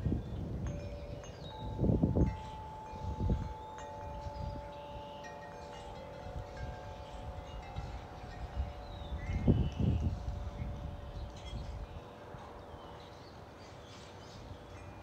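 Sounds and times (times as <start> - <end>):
wind buffeting microphone: 0.0 - 13.0
wind chime ringing: 0.0 - 15.0.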